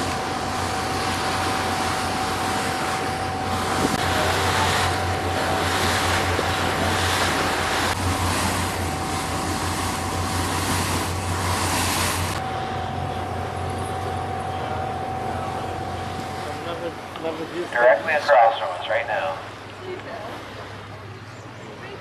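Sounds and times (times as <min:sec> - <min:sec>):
thin steady whine: 0:00.0 - 0:21.4
boat engine droning: 0:00.0 - 0:22.0.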